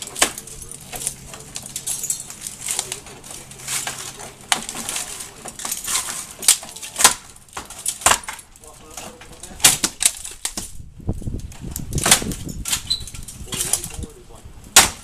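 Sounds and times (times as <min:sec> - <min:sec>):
metal window frame scraping and clanking: 0:00.0 - 0:14.1.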